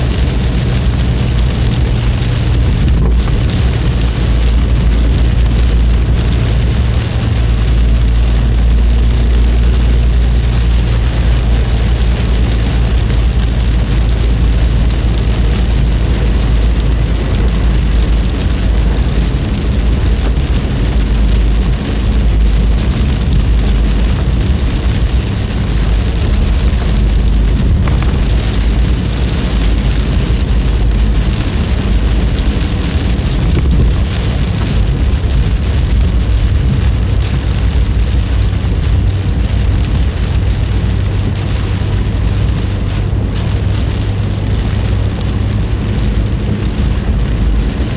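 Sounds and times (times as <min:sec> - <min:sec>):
car driving rumble: 0:00.0 - 0:47.9
rain falling on a car: 0:00.0 - 0:47.9.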